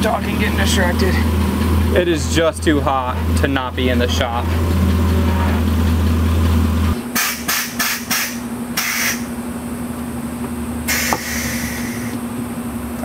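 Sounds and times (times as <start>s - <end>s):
steady hum: 0.0s - 13.0s
truck engine idling: 0.0s - 13.0s.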